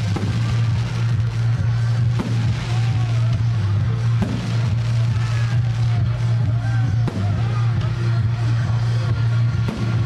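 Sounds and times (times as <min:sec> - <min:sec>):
firework bangs: 0:00.0 - 0:08.6, 0:09.3 - 0:10.0
music playing: 0:00.0 - 0:10.0.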